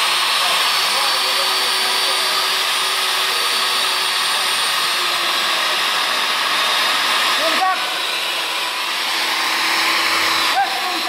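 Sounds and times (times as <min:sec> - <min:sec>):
core drill boring into concrete: 0:00.0 - 0:11.0.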